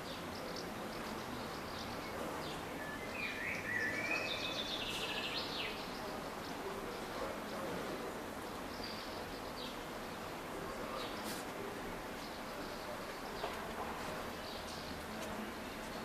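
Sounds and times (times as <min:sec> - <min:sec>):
small birds singing: 0:00.0 - 0:16.0
steady background hiss: 0:00.0 - 0:16.0.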